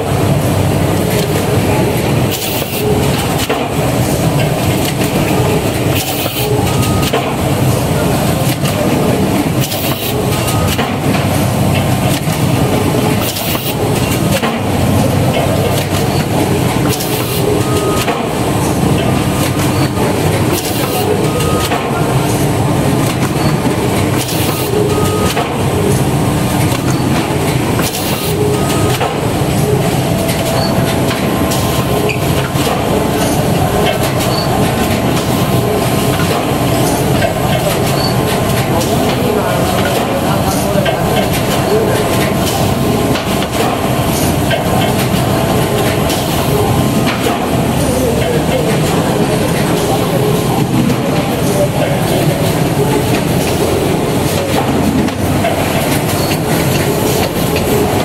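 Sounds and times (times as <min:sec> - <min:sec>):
machine clattering: 0:00.0 - 0:58.0
sharp machine clack: 0:01.0 - 0:58.0.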